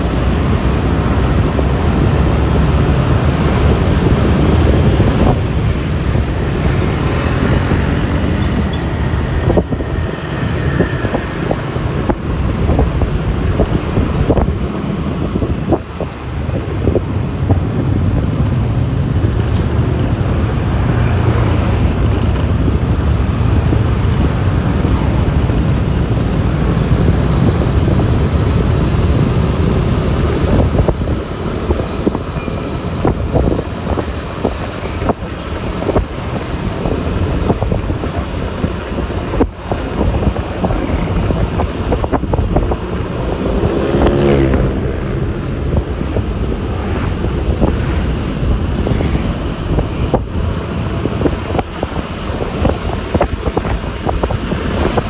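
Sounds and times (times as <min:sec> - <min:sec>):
scooter engine and tyres: 0:00.0 - 0:55.0
surrounding traffic: 0:00.0 - 0:55.0
wind on microphone: 0:00.0 - 0:55.0.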